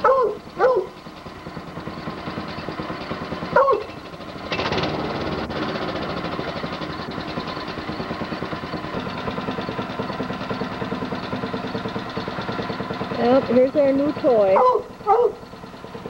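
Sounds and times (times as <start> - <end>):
small engine pulsing: 0.0 - 16.0.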